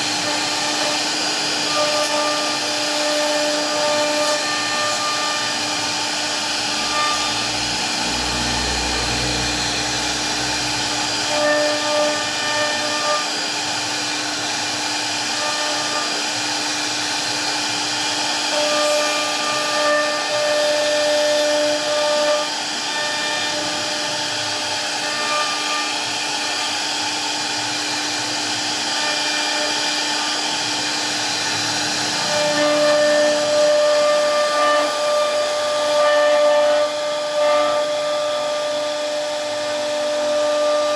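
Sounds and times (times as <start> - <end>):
router spindle cutting wood: 0.0 - 40.9.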